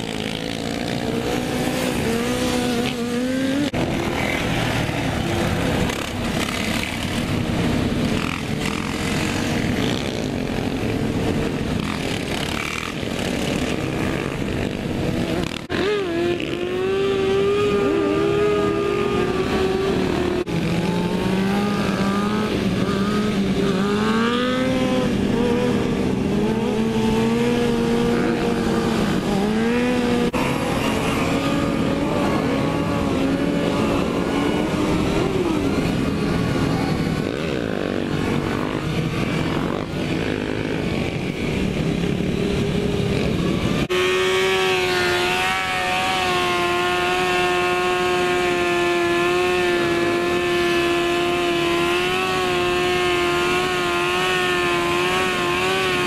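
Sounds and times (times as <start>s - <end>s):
motorcycle engines running: 0.0s - 56.0s.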